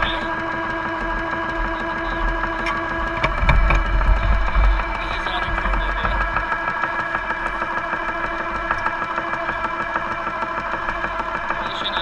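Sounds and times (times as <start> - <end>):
toy tank motor humming and whining: 0.0 - 12.0.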